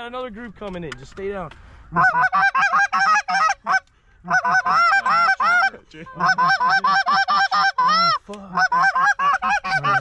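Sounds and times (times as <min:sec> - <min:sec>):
goose honks and clucks: 0:01.8 - 0:10.0.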